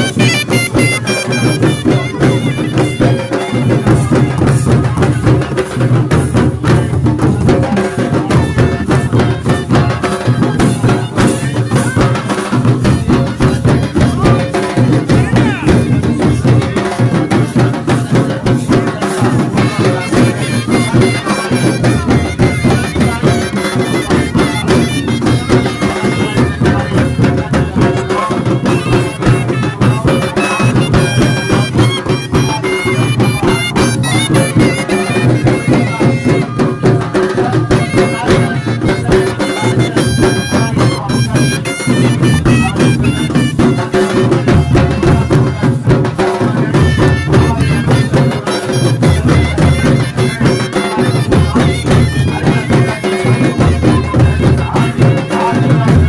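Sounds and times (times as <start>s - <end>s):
folk music with drumming: 0.0s - 56.0s.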